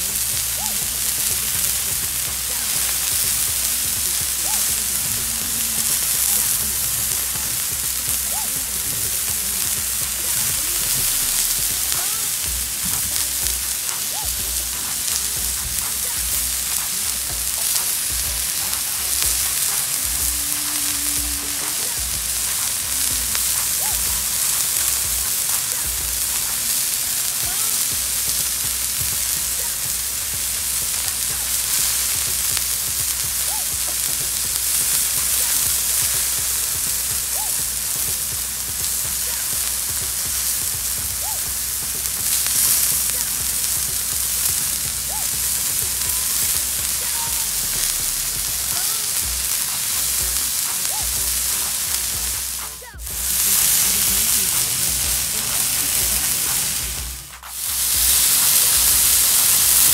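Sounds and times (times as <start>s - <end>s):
patties sizzling on a griddle: 0.0s - 59.9s
pops and crackles: 0.0s - 59.9s.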